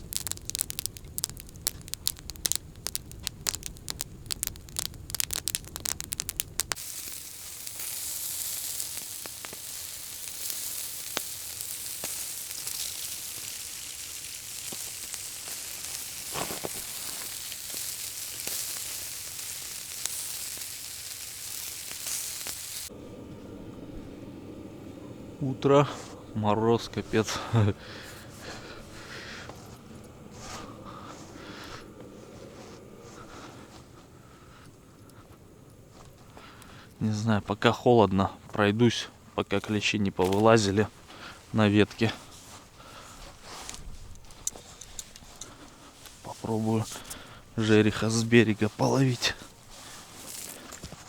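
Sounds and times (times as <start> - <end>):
fire crackling: 0.0 - 51.0
sizzling hiss: 0.0 - 51.0.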